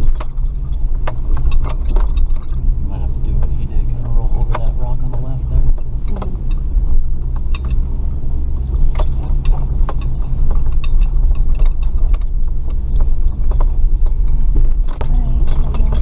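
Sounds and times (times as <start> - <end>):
knocks and rattles: 0.0 - 16.0
truck engine rumble: 0.0 - 16.0.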